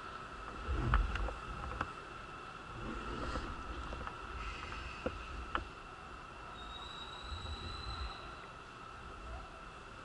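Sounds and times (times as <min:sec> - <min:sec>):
faint high whine: 0:00.0 - 0:10.0
low steady rumble: 0:00.0 - 0:10.0.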